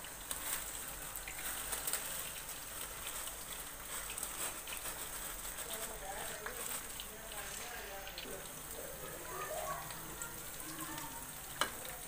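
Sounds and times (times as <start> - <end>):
syrup bubbling and crackling in pot: 0.0 - 12.0.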